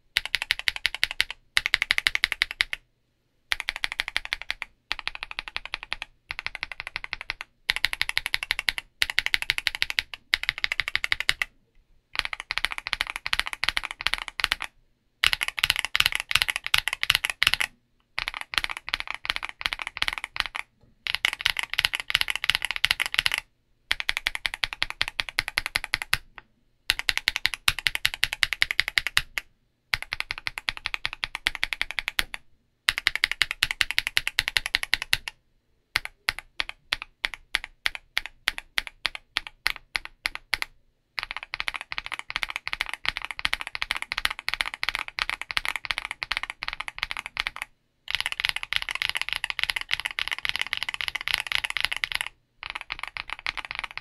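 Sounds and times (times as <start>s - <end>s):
mechanical keyboard typing: 0.0s - 2.8s, 3.5s - 11.5s, 12.2s - 35.4s, 36.0s - 54.0s.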